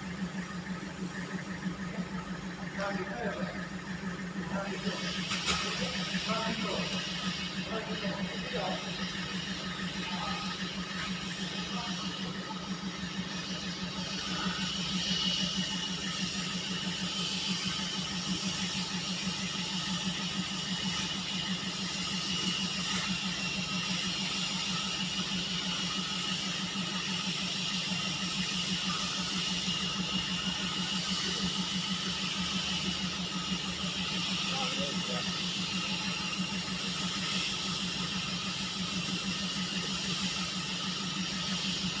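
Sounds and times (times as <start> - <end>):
machinery pulsing hum: 0.0 - 42.0
steady hiss: 0.0 - 42.0.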